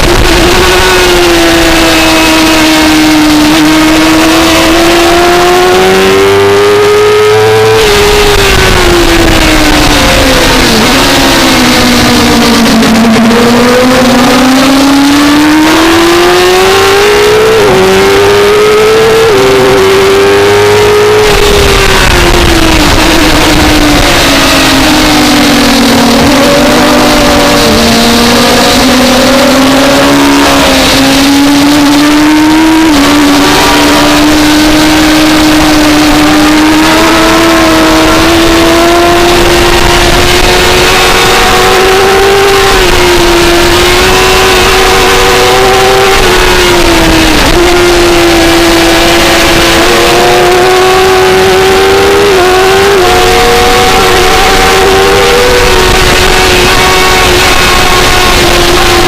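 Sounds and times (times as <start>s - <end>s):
motorcycle engine at racing speed: 0.0s - 59.0s.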